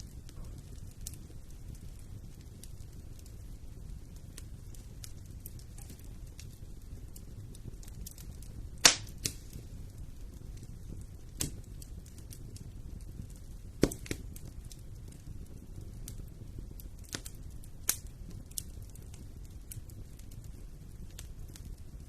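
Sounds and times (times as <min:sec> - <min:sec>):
fire crackling and popping: 0:00.0 - 0:22.0
wood fire rumbling: 0:00.0 - 0:22.0.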